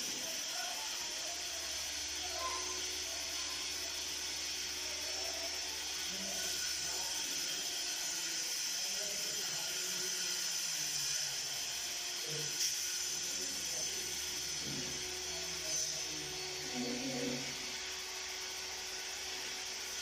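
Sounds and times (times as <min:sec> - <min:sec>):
faint indistinct voices: 0:00.0 - 0:20.0.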